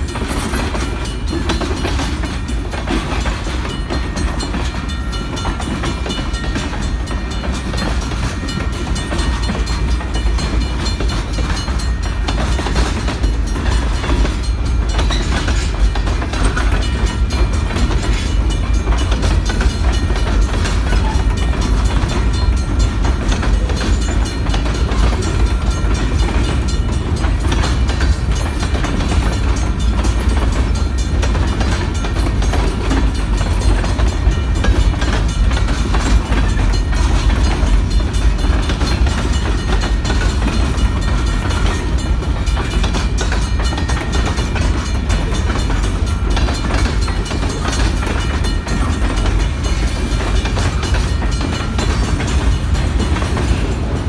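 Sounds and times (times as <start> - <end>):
freight train rumbling past: 0.0 - 54.0
wheels clicking over rail joints: 0.0 - 54.0.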